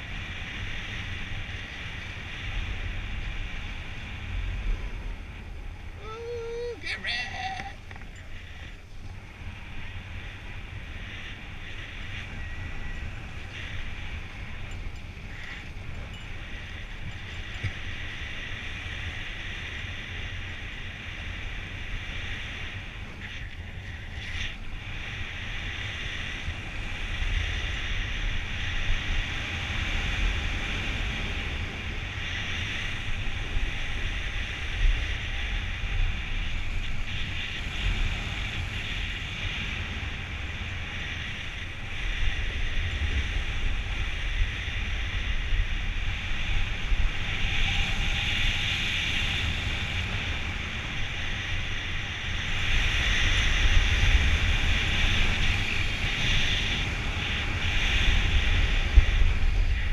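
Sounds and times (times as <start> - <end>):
snowboard scraping over snow: 0.0 - 59.9
wind buffeting microphone: 0.0 - 59.9.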